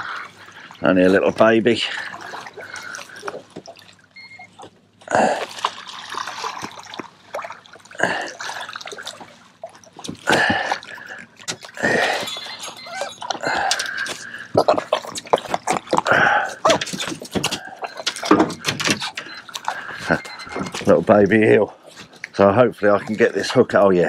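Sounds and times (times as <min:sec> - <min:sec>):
water splashing and dripping: 0:00.0 - 0:23.8.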